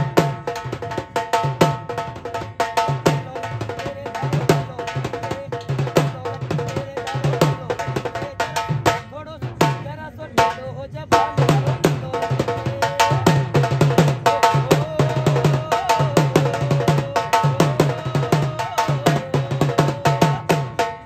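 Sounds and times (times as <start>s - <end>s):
held melody line: 0.0s - 21.0s
quick steady drum beat: 0.0s - 21.0s.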